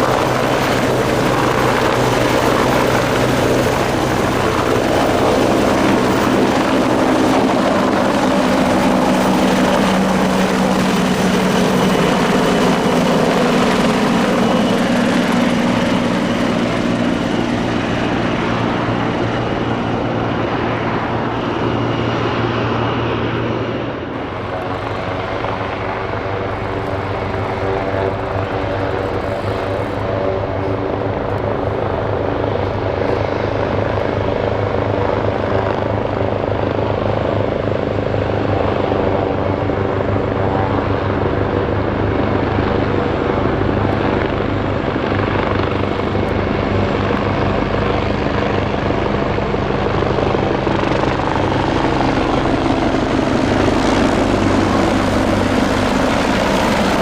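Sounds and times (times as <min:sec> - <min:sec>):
helicopter rotor blades chopping: 0:00.0 - 0:57.0
helicopter turbine whine: 0:00.0 - 0:57.0.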